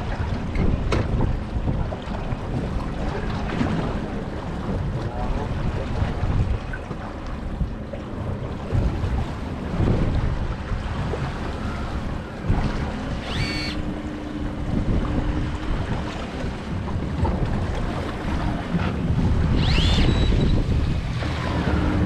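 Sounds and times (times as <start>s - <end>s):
water washing against boat hull: 0.0s - 22.0s
wind buffeting microphone: 0.0s - 22.0s.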